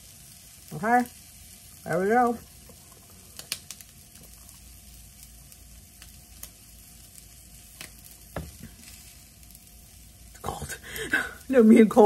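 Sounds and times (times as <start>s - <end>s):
crackles and pops: 0.0s - 12.0s
food sizzling in a frying pan: 0.0s - 12.0s.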